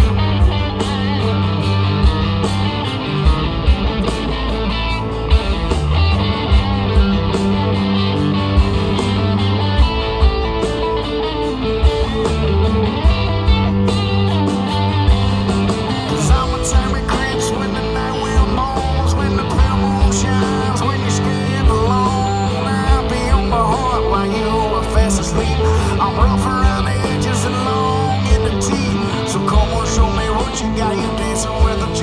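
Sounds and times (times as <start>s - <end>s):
bass guitar: 0.0s - 32.0s
electric guitars: 0.0s - 32.0s
steady drum beat: 0.0s - 32.0s.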